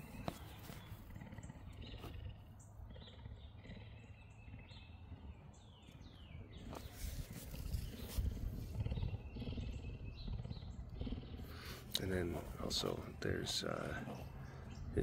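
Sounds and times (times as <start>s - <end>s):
cougar purring: 0.0s - 15.0s
faint birds chirping: 0.0s - 15.0s.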